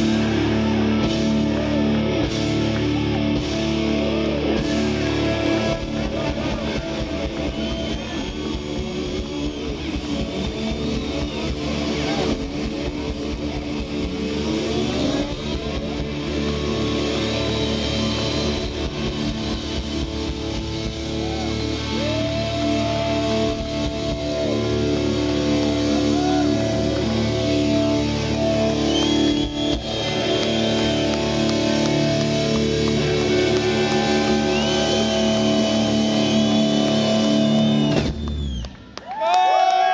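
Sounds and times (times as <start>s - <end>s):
electric guitar sliding in pitch: 0.0s - 38.5s
live rock band: 0.0s - 39.0s.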